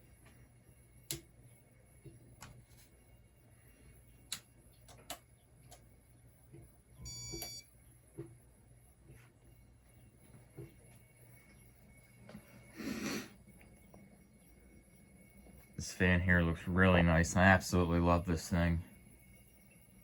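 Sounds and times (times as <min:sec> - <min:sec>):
ceiling fan humming: 0:00.0 - 0:20.0.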